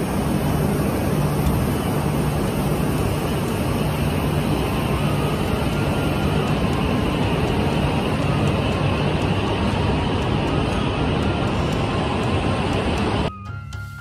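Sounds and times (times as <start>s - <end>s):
train rumbling and humming: 0.0s - 14.0s.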